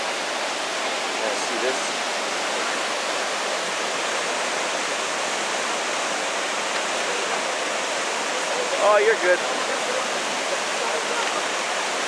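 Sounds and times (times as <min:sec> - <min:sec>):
river flowing: 0:00.0 - 0:12.0
waterfall rushing: 0:00.0 - 0:12.0.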